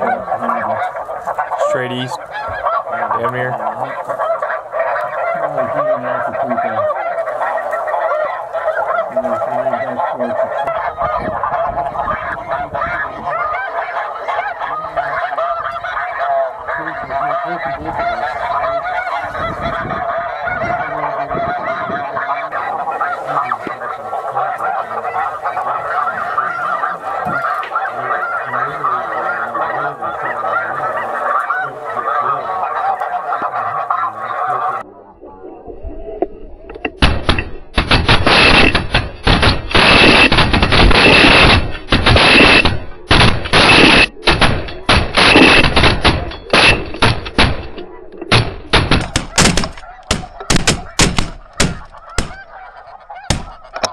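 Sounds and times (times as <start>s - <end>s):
geese honking: 0.0s - 53.9s.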